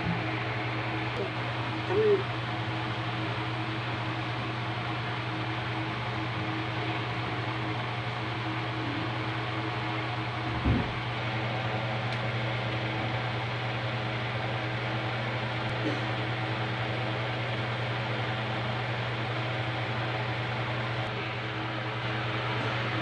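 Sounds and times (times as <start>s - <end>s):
machine hum with hiss: 0.0s - 23.0s.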